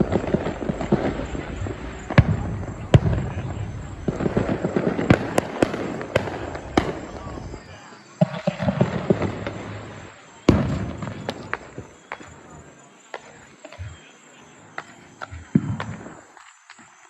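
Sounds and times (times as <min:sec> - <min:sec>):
fireworks banging: 0:00.0 - 0:17.0
fireworks crackling: 0:00.0 - 0:17.0.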